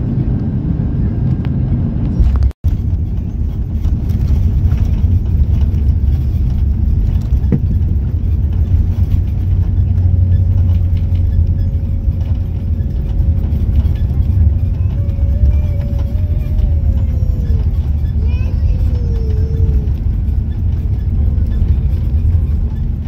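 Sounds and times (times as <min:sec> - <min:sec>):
vehicle interior rumble: 0:00.0 - 0:23.0.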